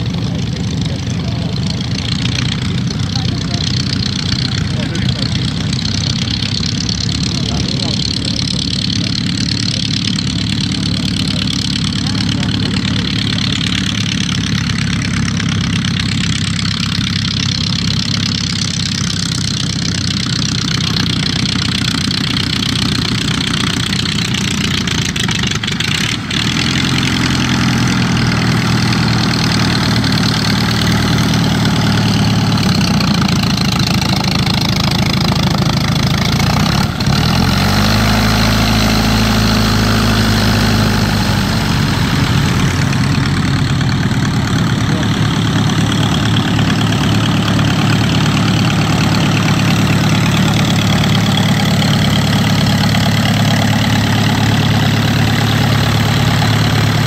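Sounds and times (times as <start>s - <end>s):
light aircraft engine idling: 0.0s - 57.0s
passing aircraft rumble: 0.0s - 57.0s.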